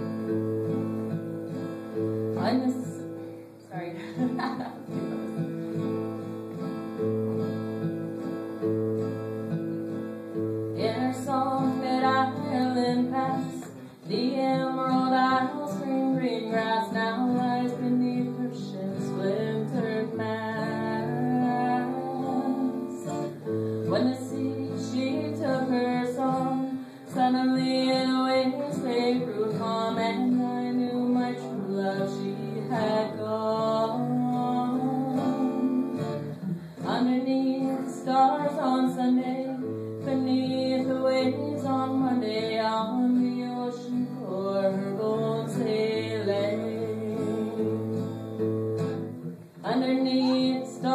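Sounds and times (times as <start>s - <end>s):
acoustic guitar strumming: 0.0s - 50.9s
woman singing folk song: 0.0s - 50.9s.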